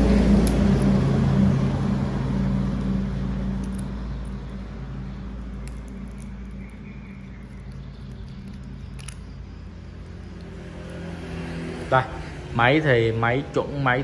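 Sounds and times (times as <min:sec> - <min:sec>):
motor vehicle engine hum: 0:00.0 - 0:14.0.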